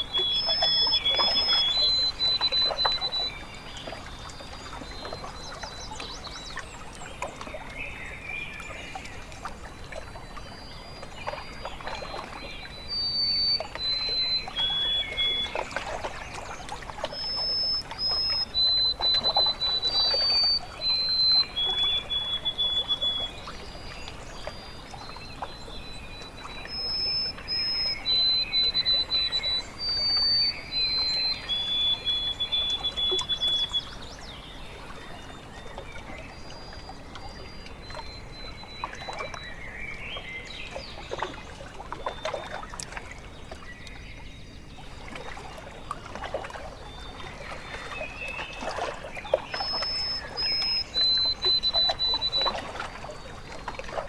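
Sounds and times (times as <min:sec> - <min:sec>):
water lapping and trickling: 0:00.0 - 0:54.0.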